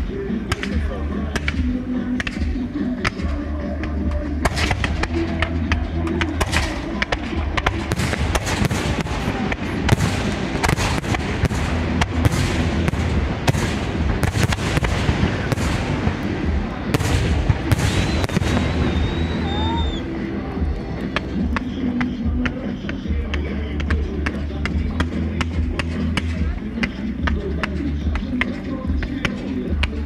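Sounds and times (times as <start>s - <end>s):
low rumble: 0.0s - 28.2s
fireworks bangs and crackles: 0.0s - 30.0s.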